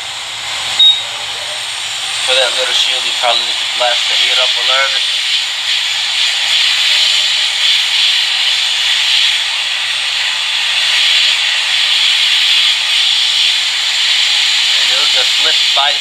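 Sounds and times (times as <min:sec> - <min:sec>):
hot air blower hiss: 0:00.0 - 0:16.0.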